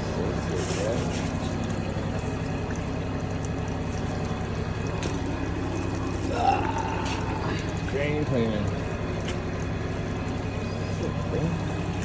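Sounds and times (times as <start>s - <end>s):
motor humming: 0.0s - 12.0s
water rushing through drain: 0.0s - 12.0s.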